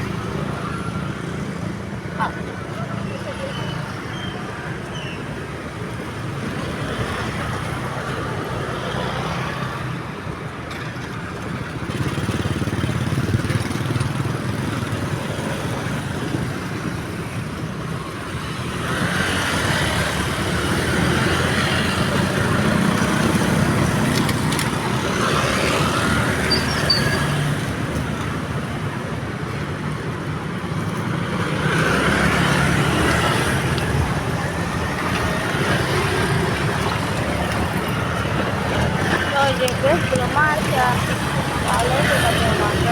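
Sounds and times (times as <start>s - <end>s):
road traffic passing: 0.0s - 42.9s.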